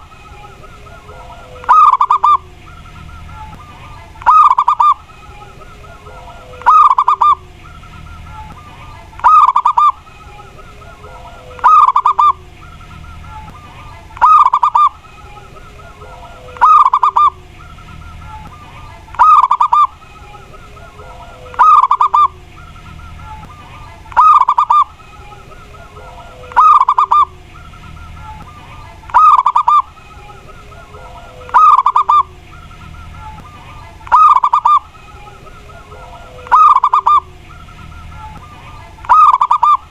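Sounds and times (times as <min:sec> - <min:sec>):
dove trilled cooing: 0:00.0 - 0:39.9.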